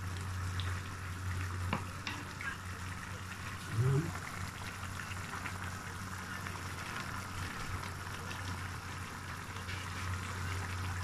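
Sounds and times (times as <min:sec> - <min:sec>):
broth boiling in a wok: 0:00.0 - 0:11.0.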